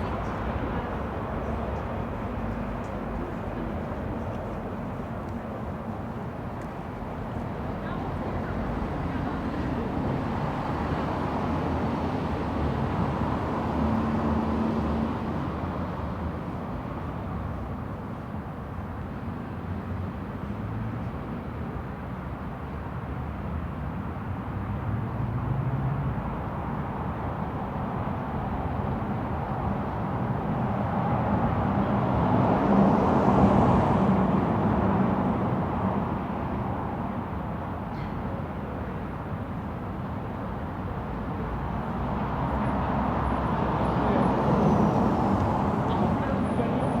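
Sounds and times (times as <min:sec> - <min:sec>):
low rumble of traffic: 0:00.0 - 0:47.0.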